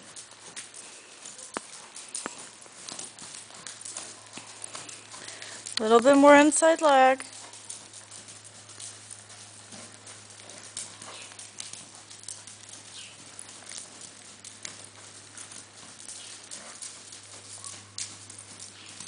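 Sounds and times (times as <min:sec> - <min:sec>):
hoofbeats on sand: 0:00.0 - 0:19.0
steady low hum: 0:00.0 - 0:19.0.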